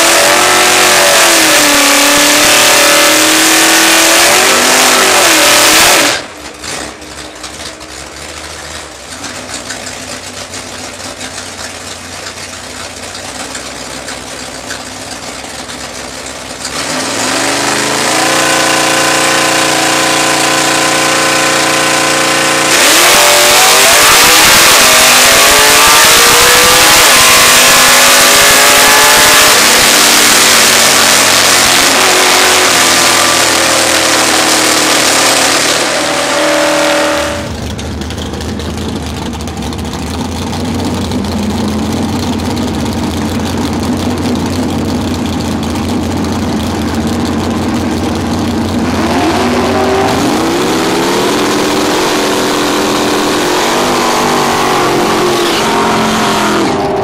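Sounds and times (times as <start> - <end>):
drag car engine at full throttle: 0.0 - 57.0.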